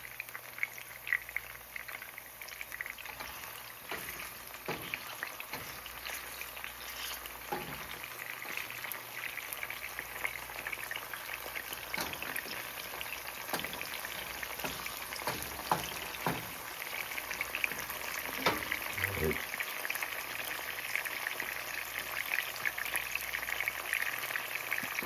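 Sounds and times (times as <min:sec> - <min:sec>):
mushrooms sizzling in a frying pan: 0:00.0 - 0:25.0.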